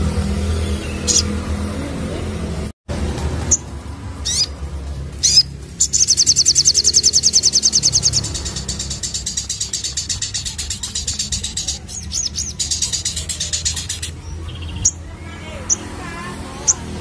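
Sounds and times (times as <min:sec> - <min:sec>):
bird chirps and trills: 0:00.1 - 0:01.8, 0:03.4 - 0:17.0.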